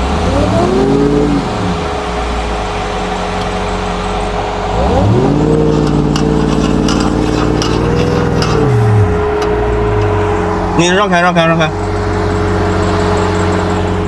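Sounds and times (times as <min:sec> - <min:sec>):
pickup engine revving: 0:00.0 - 0:14.0.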